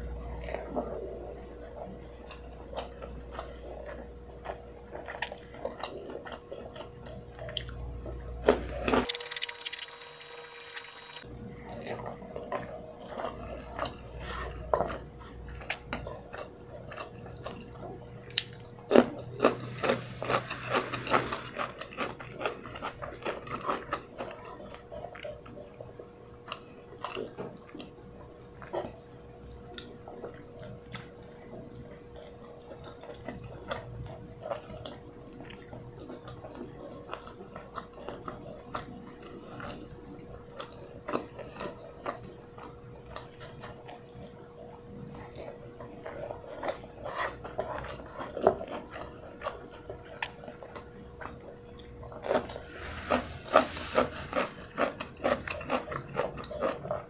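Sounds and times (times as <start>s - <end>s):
faint steady hum: 0.0s - 57.0s
chewing: 0.2s - 57.0s.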